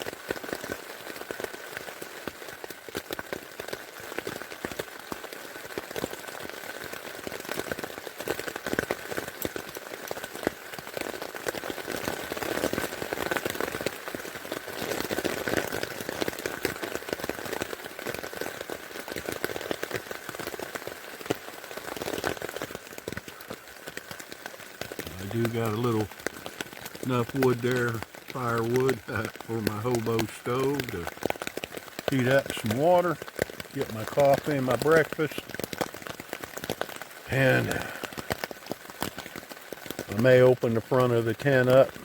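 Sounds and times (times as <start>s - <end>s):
rain on tent fabric: 0.0s - 42.0s.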